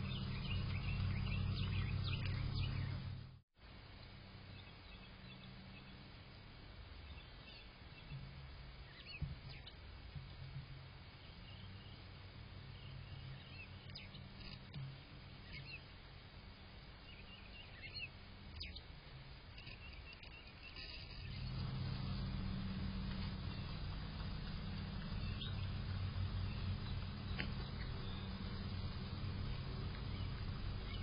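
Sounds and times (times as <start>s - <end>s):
low steady background rumble: 0.0s - 31.0s.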